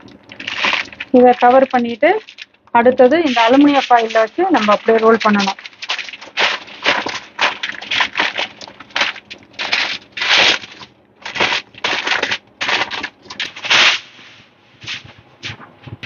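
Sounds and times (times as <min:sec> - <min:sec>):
aluminium foil crinkling: 0:00.0 - 0:16.0.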